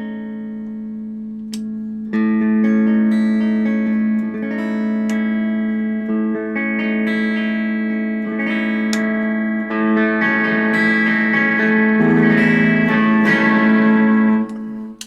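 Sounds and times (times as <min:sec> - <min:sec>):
clean electric guitar with delay: 0:00.0 - 0:15.0.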